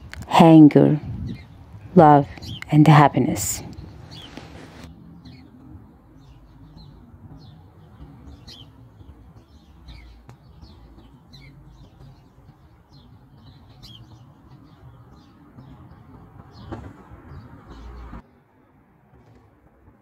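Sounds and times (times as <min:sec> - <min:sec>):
low background rumble: 0:00.0 - 0:18.2
small birds chirping: 0:00.0 - 0:18.2.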